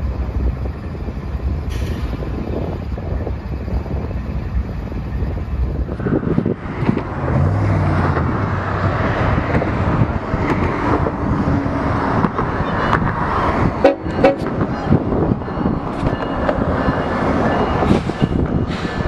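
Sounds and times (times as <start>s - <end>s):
locomotive engine rumble: 0.0s - 19.0s
train wheel noise: 0.0s - 19.0s.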